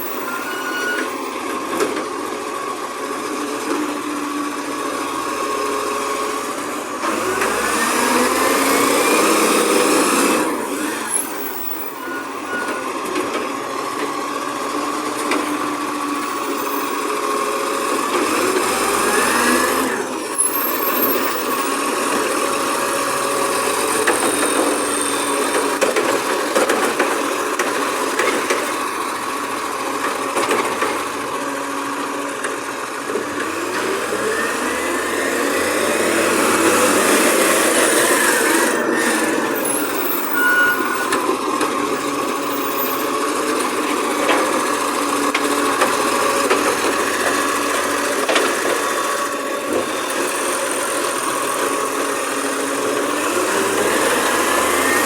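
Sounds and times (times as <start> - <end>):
garbage truck engine running: 0.0 - 55.0.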